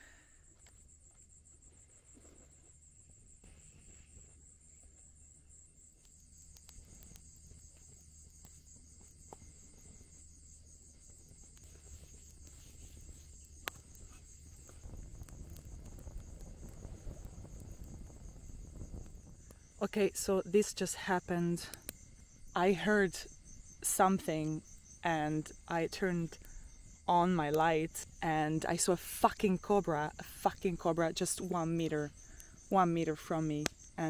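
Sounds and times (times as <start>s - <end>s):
campfire crackling: 0.0s - 34.0s
lower insect trill: 0.0s - 34.0s
night insects trilling: 0.0s - 34.0s.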